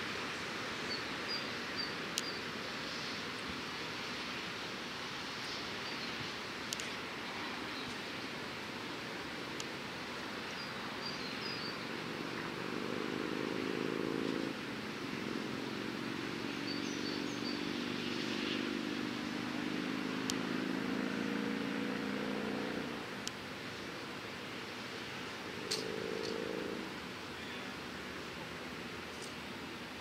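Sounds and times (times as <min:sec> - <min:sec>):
light aircraft engine and propeller: 0:00.0 - 0:20.4, 0:22.0 - 0:30.0.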